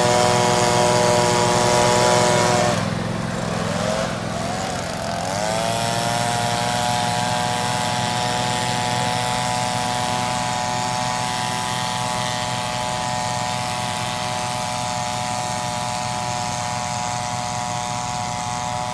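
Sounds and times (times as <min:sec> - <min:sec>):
lawn mower engine running: 0:00.0 - 0:18.9
small engine revving: 0:00.0 - 0:18.9.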